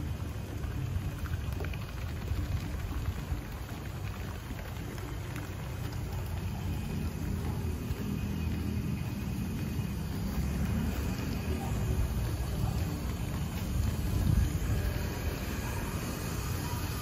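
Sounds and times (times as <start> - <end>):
water patter: 0.0 - 17.0
wind rumble on microphone: 0.0 - 17.0.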